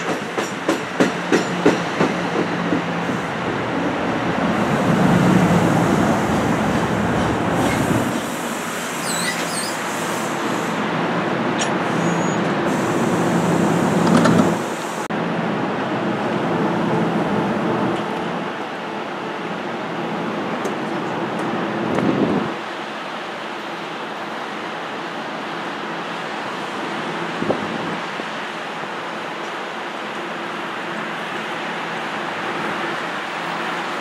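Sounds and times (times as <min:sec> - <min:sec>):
passenger train rumbling past: 0:00.0 - 0:34.0.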